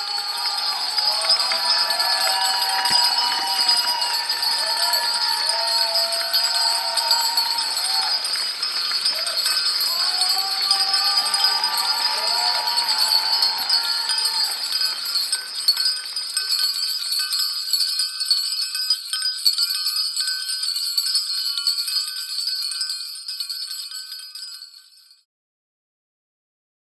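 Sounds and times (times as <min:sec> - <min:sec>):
bells jingling: 0:00.0 - 0:25.3.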